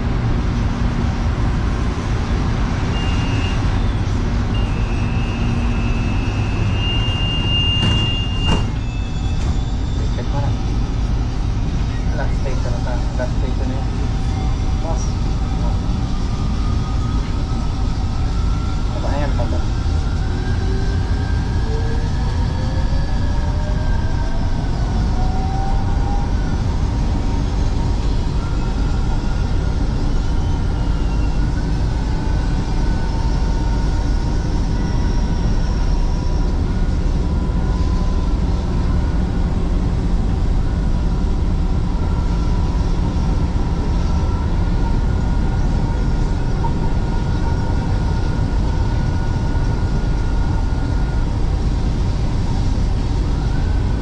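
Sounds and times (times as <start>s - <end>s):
wheels rumbling on track: 0.0s - 54.0s.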